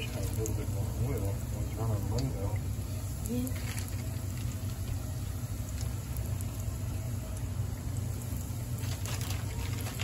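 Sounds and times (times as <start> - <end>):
fish deep-frying in hot oil: 0.0 - 10.0.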